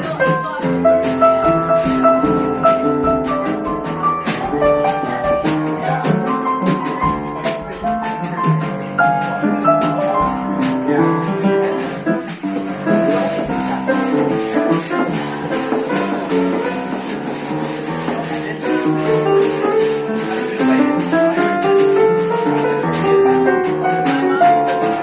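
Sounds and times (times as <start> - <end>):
high shaker rhythm: 0.0 - 25.0
jazz band playing: 0.0 - 25.0.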